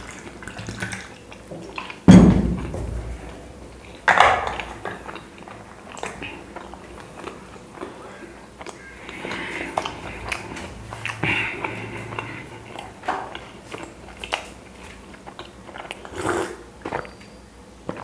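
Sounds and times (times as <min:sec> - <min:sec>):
person chewing bread: 0:03.0 - 0:18.0.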